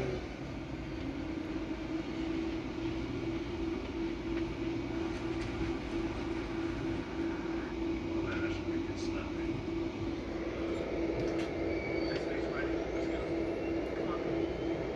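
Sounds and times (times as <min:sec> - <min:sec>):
inverter humming: 0:00.0 - 0:14.9.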